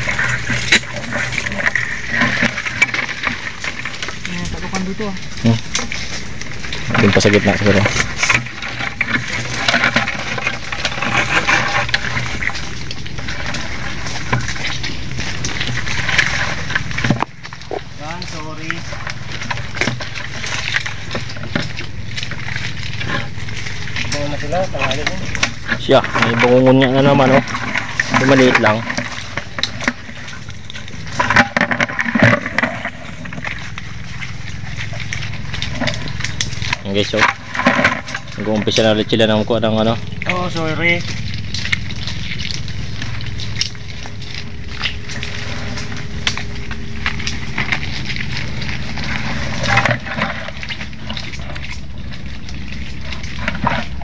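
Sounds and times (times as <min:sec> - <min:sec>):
branches cracking: 0:00.0 - 0:54.0
leaves and twigs rustling: 0:00.0 - 0:54.0
low rumble: 0:00.0 - 0:54.0
steady low hum: 0:00.0 - 0:54.0
twigs snapping: 0:00.0 - 0:54.0.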